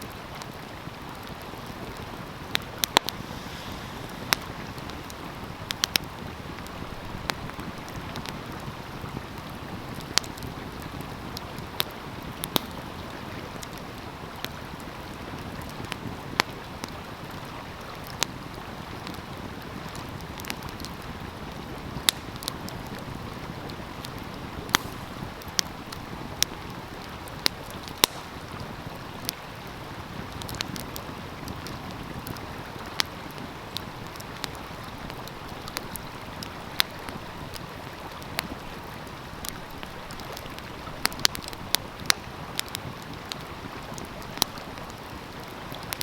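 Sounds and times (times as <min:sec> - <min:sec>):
stream flowing: 0:00.0 - 0:46.0
wood fire crackling and popping: 0:00.1 - 0:46.0.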